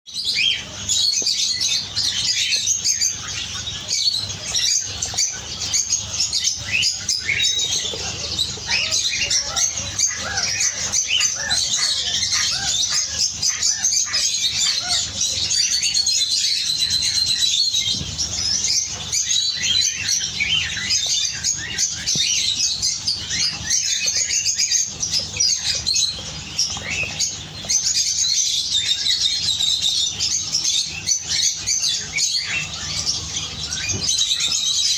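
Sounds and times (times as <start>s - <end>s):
canaries chirping and singing: 0.1s - 34.9s.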